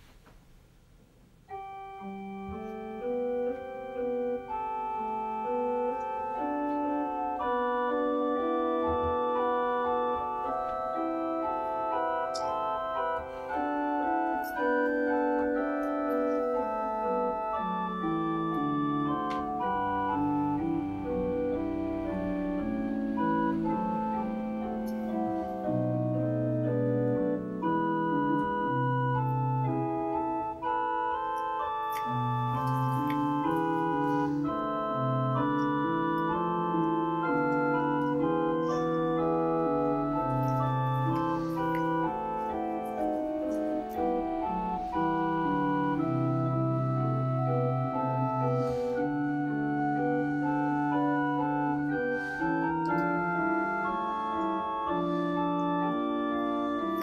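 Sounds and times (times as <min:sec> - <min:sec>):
organ playing held chords: 0:01.2 - 0:57.0.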